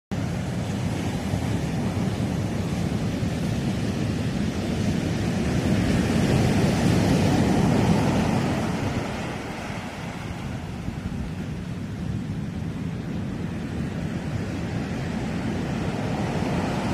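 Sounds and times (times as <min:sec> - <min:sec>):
sea waves breaking on beach: 0:00.1 - 0:16.9.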